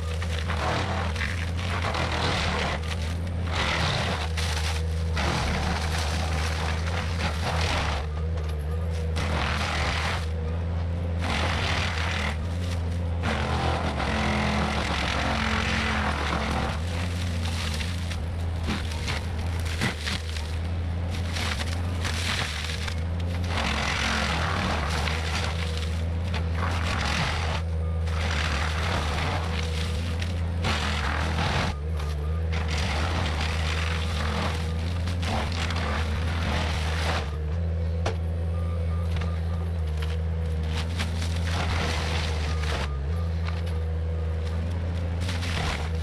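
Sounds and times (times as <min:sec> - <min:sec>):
mulcher head grinding brush: 0:00.0 - 0:37.4
diesel engine running under load: 0:00.0 - 0:46.0.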